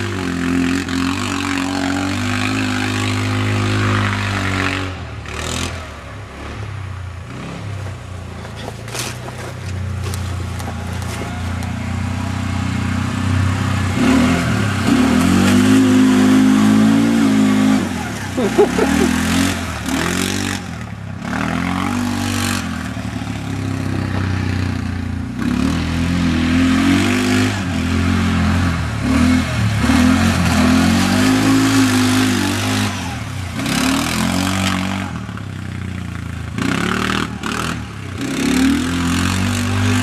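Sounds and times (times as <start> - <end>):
quad engine revving: 0.0 - 40.0.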